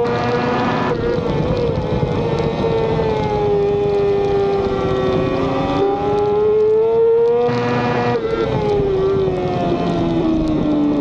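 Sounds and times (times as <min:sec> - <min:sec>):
racing motorcycle engine high revs: 0:00.0 - 0:11.0.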